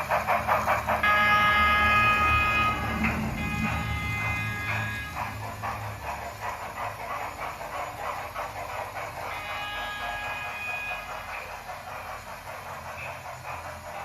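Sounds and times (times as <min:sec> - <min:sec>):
steam locomotive chuffs: 0:00.0 - 0:14.0.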